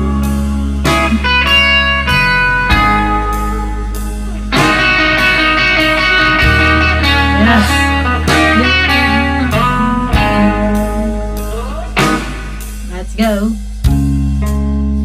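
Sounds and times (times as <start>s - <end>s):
blues-rock band: 0.0s - 15.0s
electric guitar playing chords: 0.0s - 15.0s
sustained bass line: 0.0s - 15.0s.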